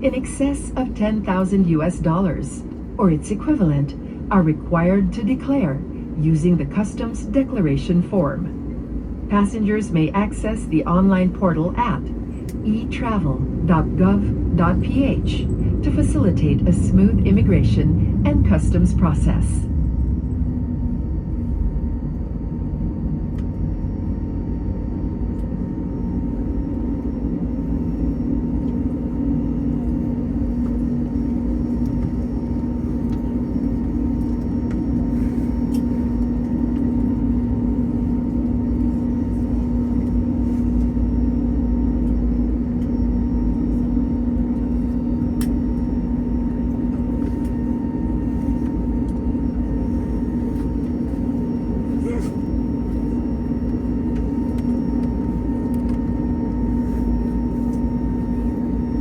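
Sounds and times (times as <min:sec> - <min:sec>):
aircraft cabin drone: 0:00.0 - 0:59.0.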